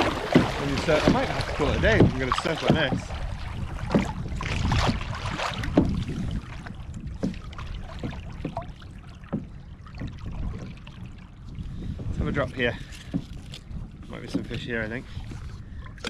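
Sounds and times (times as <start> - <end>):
waves slapping against kayak hull: 0.0 - 16.0
wind rumble on microphone: 0.0 - 16.0.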